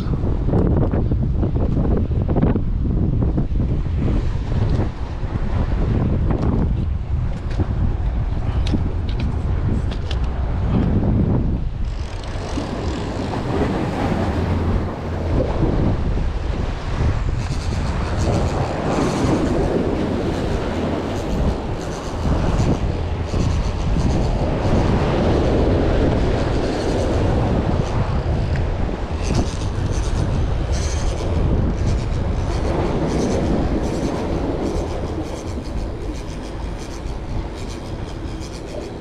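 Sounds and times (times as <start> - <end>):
steady rushing noise: 0.0 - 39.0
wind buffeting microphone: 0.0 - 39.0.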